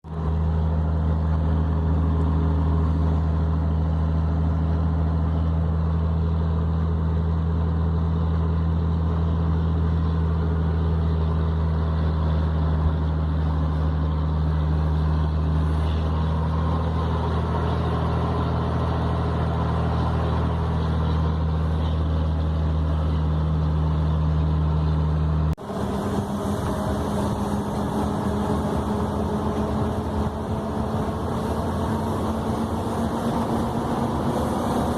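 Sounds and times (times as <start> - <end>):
truck diesel engine droning: 0.0 - 34.9.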